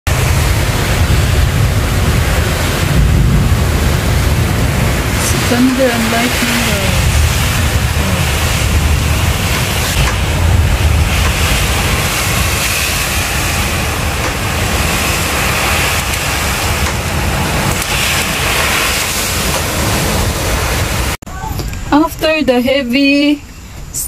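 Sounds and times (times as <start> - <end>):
heavy rain: 0.0 - 21.9
strong wind: 0.0 - 24.0
low rumble: 0.1 - 21.2.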